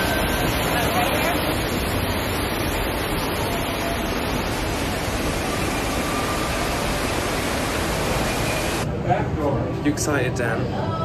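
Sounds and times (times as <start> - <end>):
rushing falling water: 0.0 - 8.8.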